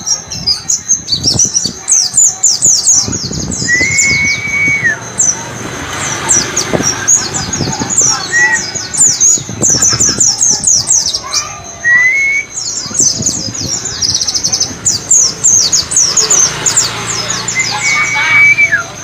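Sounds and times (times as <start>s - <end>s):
bird singing high sharp chirps: 0.0s - 19.0s.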